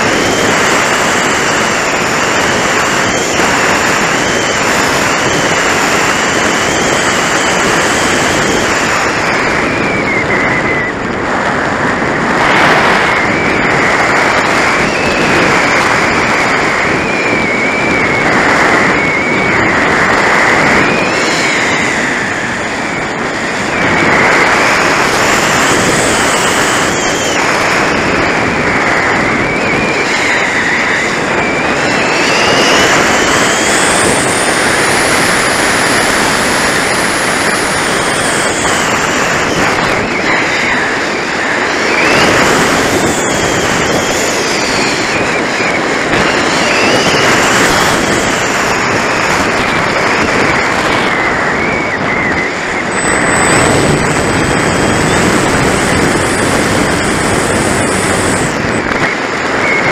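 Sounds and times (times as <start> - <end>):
strong wind buffeting microphone: 0.0 - 59.9
thin high whine: 0.0 - 59.9.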